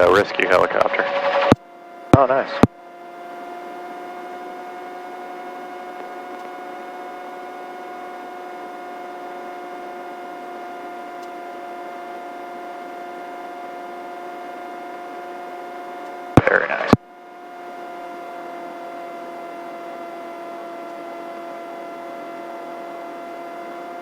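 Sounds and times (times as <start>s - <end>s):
helicopter drone: 0.0s - 24.0s.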